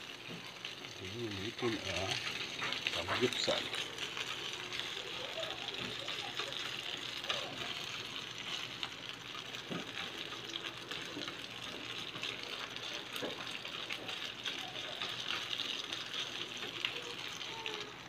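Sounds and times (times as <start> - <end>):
meat sizzling in a frying pan: 0.0 - 18.0.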